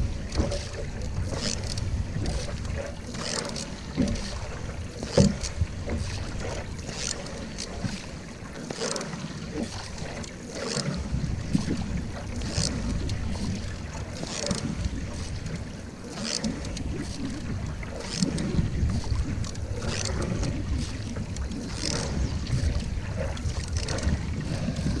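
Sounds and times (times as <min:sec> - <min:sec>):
wind rumble on microphone: 0:00.0 - 0:08.0, 0:10.8 - 0:25.0
paddle splashing in water: 0:00.0 - 0:25.0.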